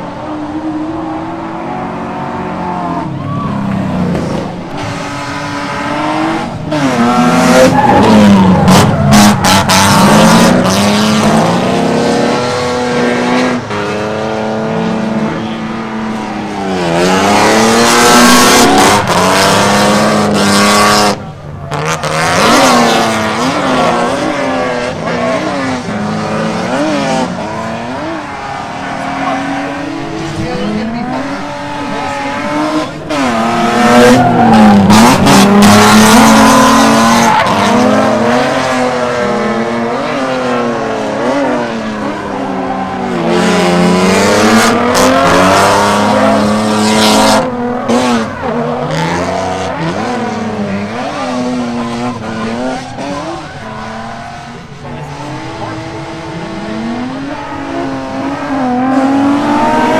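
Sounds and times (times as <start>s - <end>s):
car engines revving hard: 0.0s - 59.9s
tire squeal: 2.6s - 11.1s, 15.3s - 59.9s.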